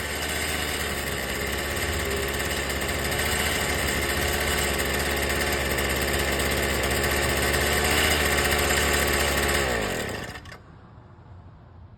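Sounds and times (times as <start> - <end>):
tiller engine running: 0.0 - 10.7.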